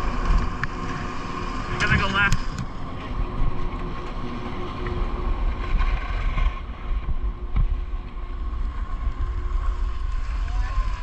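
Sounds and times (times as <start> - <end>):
skis gliding over snow: 0.0 - 11.0
wind rumbling on microphone: 0.0 - 11.0.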